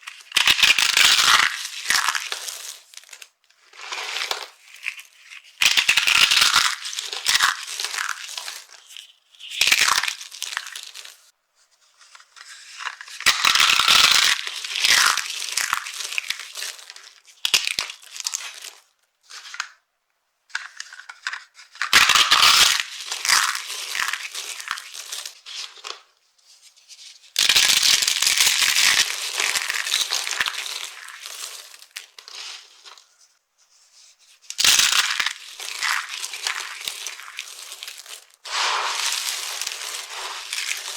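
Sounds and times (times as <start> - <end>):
dry soap crunching: 0.0 - 11.3, 12.8 - 18.9, 21.8 - 26.1, 27.4 - 33.2, 34.4 - 40.9.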